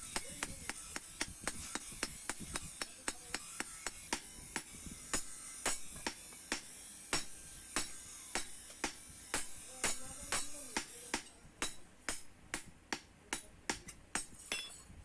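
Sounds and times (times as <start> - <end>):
hammer striking steel: 0.0 - 14.8.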